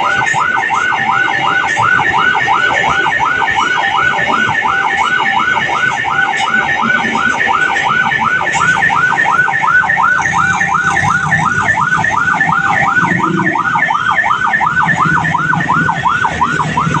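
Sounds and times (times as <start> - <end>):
level crossing alarm warbling: 0.0 - 17.0.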